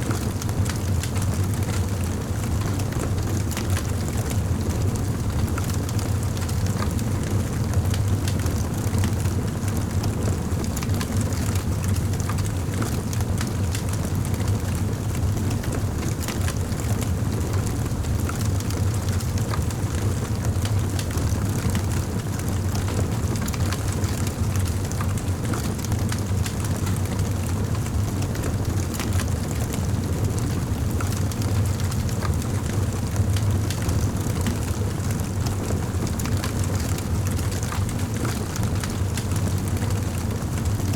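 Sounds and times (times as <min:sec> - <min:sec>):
low rumble of flames: 0:00.0 - 0:40.9.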